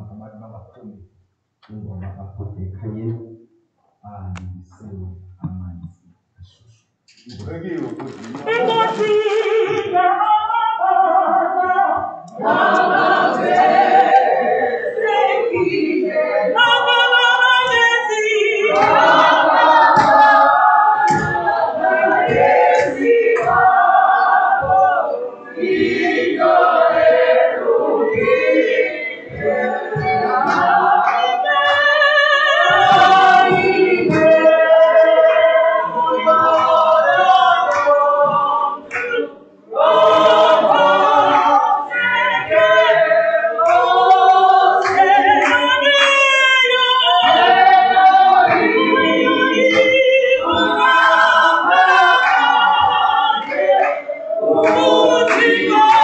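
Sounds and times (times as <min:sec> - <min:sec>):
group singing a hymn: 0:08.3 - 0:56.0.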